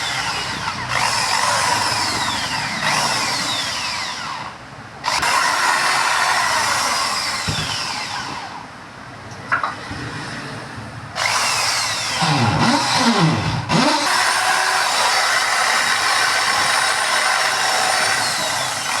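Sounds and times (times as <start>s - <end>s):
electric drill running: 0.0s - 8.6s, 11.2s - 19.0s.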